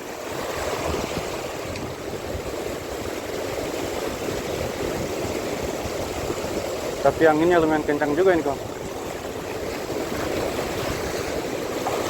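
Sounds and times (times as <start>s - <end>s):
sea waves washing on shore: 0.0s - 12.0s
wind on microphone: 0.0s - 12.0s.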